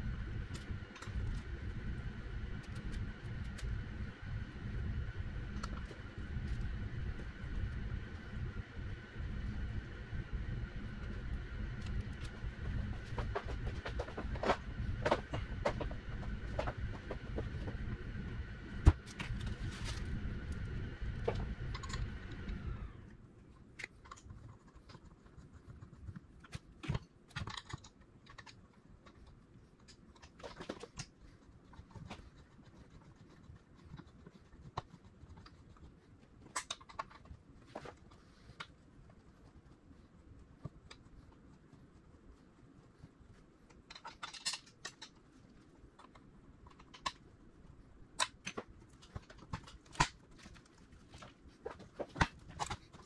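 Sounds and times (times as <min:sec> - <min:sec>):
steady hum with held tone: 0:00.0 - 0:53.0.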